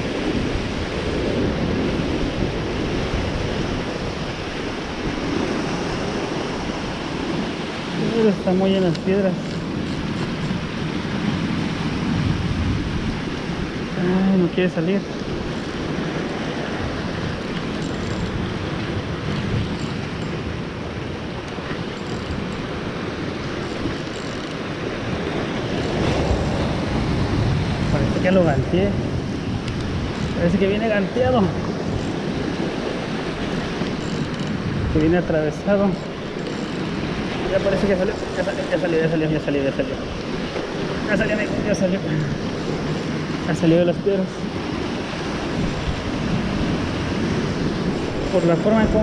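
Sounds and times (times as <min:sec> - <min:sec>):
rush of wind and sea: 0:00.0 - 0:49.0
wind buffeting microphone: 0:00.0 - 0:49.0.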